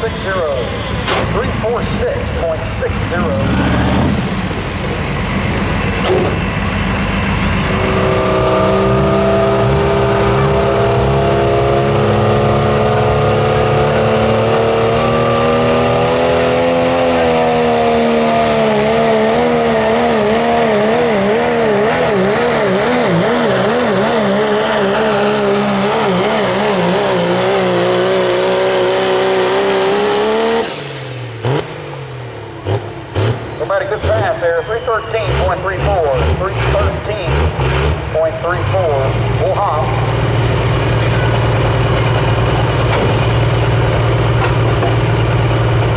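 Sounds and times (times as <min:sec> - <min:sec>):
diesel truck engine at full throttle: 0:00.0 - 0:45.9.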